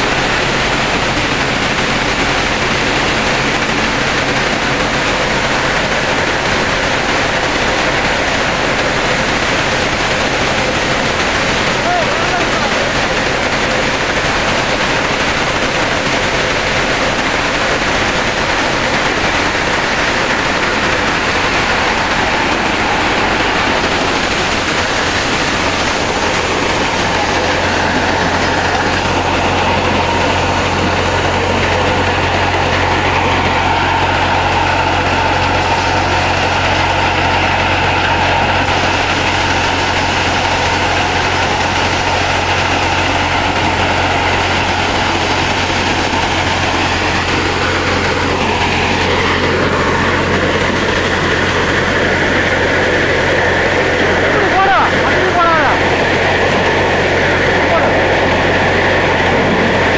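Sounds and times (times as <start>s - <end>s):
maize thresher running: 0.0s - 59.9s.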